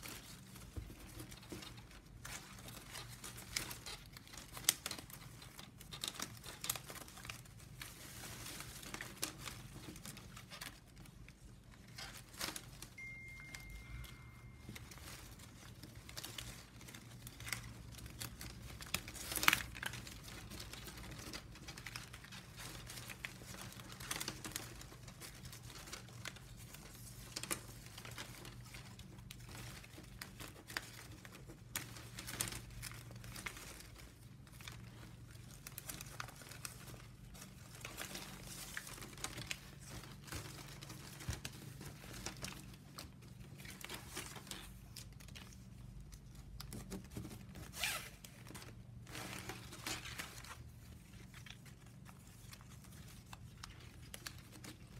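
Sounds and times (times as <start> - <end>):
low steady hum: 0.0 - 54.9
plastic strapping crinkling: 0.0 - 54.9.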